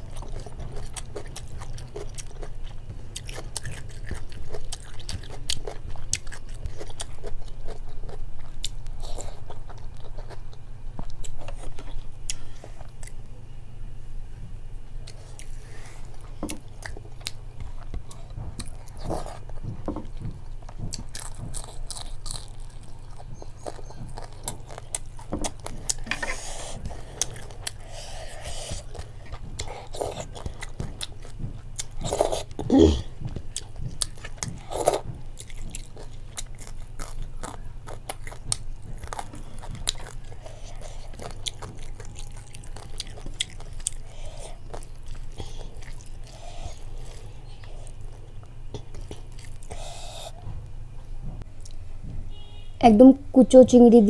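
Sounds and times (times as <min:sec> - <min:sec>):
chewing and biting food: 0:00.0 - 0:13.3, 0:15.0 - 0:50.5.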